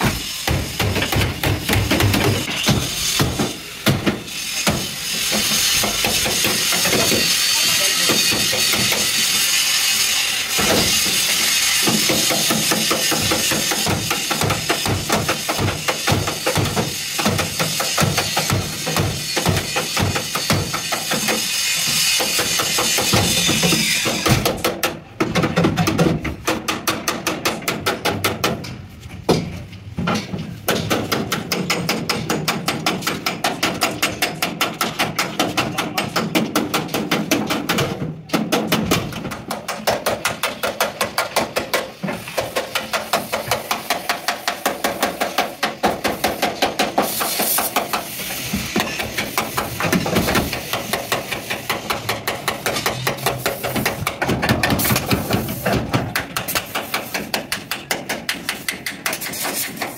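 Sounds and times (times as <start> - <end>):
hammer beating sheet steel: 0.0 - 59.9.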